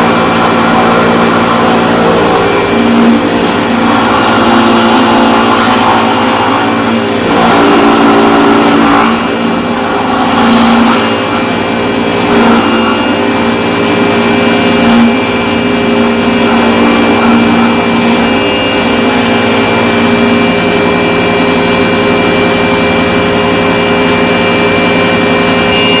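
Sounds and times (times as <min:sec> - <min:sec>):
power carving tool cutting wood: 0:00.0 - 0:22.4.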